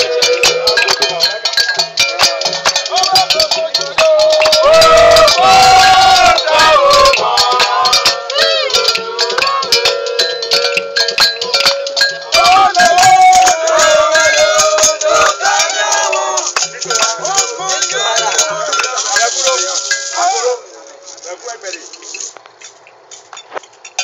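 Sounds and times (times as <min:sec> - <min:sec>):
voices singing: 0:00.0 - 0:21.8
rattles and struck percussion: 0:00.0 - 0:24.0.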